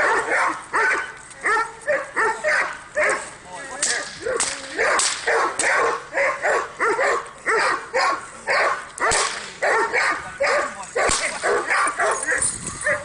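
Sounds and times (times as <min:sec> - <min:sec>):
dog barking: 0:00.0 - 0:03.3, 0:04.2 - 0:13.0.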